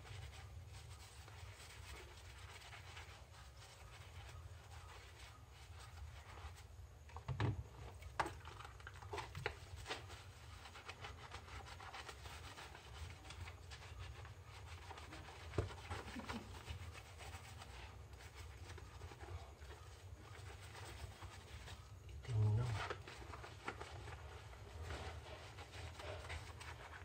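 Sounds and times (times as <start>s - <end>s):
sponge scrubbing in soapy water: 0.0s - 6.8s, 7.9s - 27.0s.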